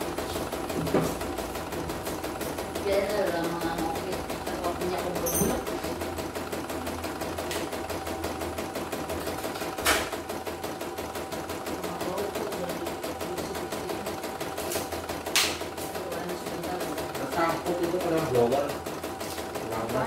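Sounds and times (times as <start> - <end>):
embroidery machine stitching: 0.0 - 20.0
machine clacks: 0.0 - 20.0.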